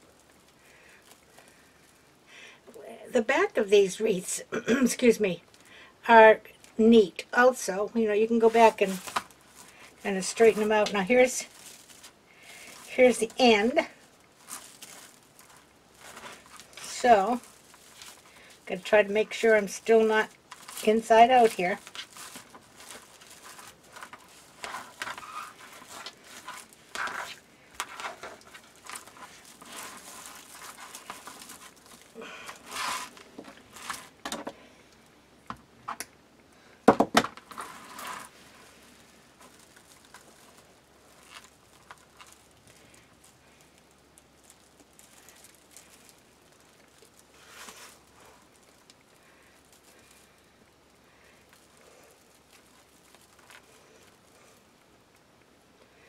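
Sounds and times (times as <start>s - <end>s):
mesh rustling and crinkling: 0.0s - 4.4s, 5.0s - 36.0s, 37.1s - 55.7s.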